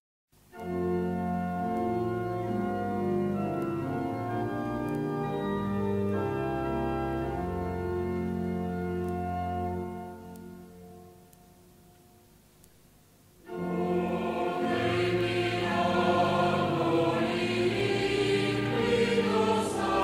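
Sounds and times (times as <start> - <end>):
slow keyboard chords: 0.4 - 20.0.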